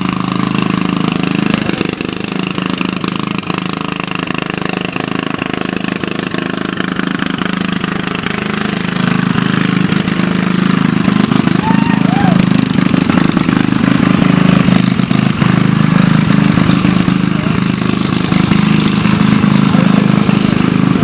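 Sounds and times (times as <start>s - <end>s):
lawn tractor engine puttering: 0.0s - 21.0s.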